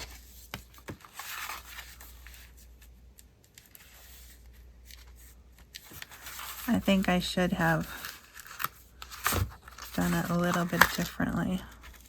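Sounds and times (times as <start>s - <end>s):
low steady hum: 0.0s - 12.0s
paper rustling: 0.0s - 12.0s.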